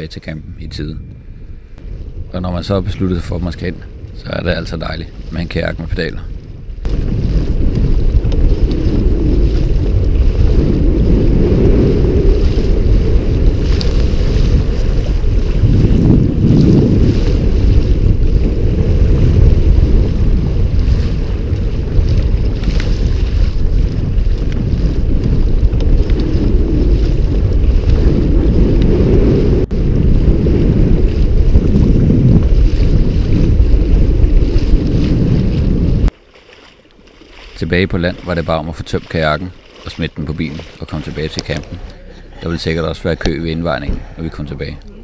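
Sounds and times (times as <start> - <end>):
waves washing around kayak: 0.0 - 45.0
wind rumbling on microphone: 0.0 - 45.0.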